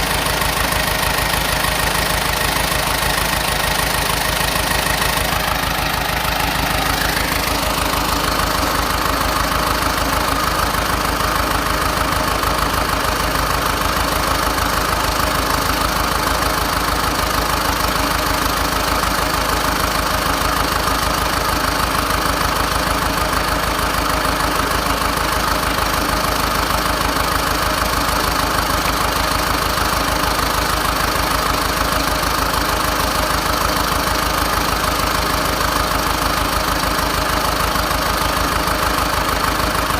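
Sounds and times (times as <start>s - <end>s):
bulldozer diesel engine chugging: 0.0s - 39.9s.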